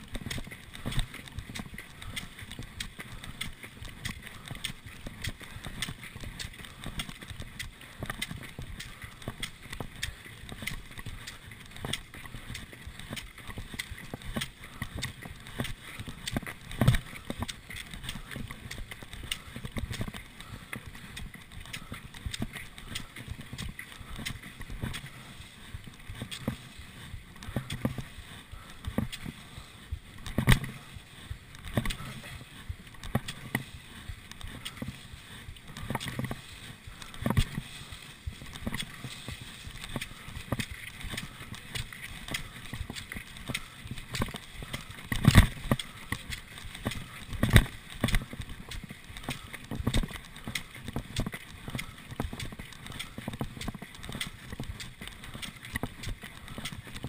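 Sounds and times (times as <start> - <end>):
ski poles knocking: 0.0 - 57.0
skis sliding on snow: 0.0 - 57.0.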